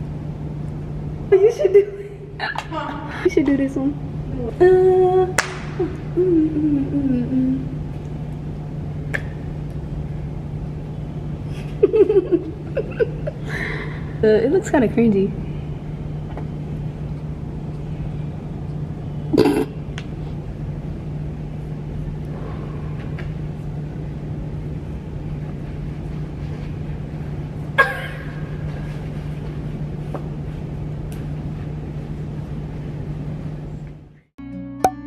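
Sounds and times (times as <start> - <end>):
steady low hum: 0.0 - 34.4.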